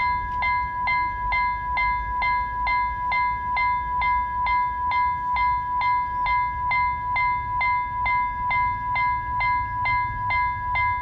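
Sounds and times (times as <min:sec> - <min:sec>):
level crossing bell ringing: 0:00.0 - 0:11.0.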